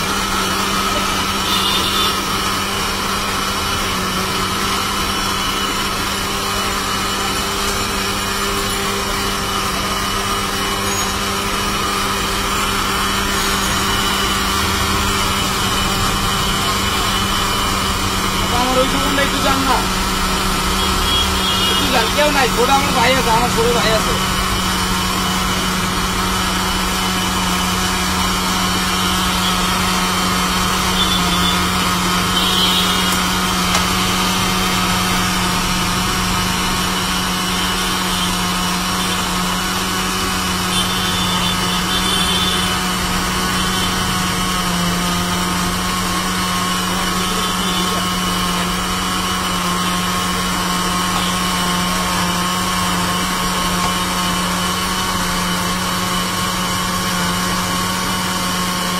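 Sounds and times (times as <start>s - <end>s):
blender motor humming: 0.0s - 58.9s.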